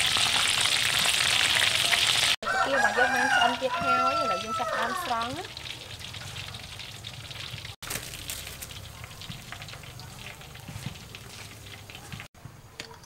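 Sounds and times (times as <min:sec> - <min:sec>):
shrimp deep-frying in oil: 0:00.0 - 0:12.3.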